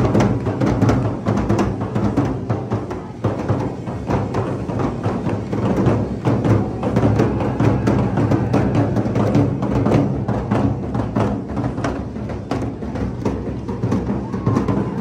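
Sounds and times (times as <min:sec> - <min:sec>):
barrel drums beaten with sticks: 0:00.0 - 0:15.0.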